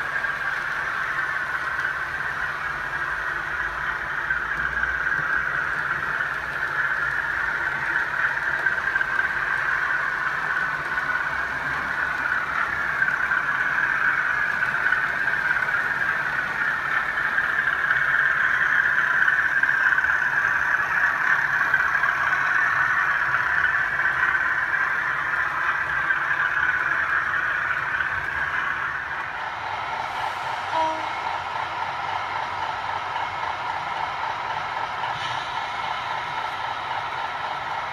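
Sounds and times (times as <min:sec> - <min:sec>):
model trains whirring on rails: 0:00.0 - 0:37.9.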